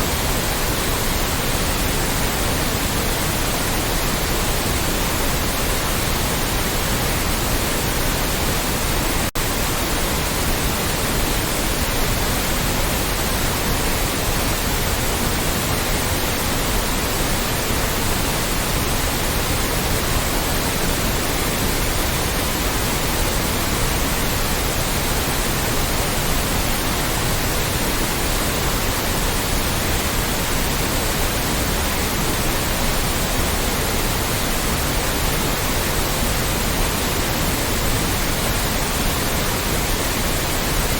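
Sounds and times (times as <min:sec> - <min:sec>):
loud white noise hiss: 0:00.0 - 0:40.9.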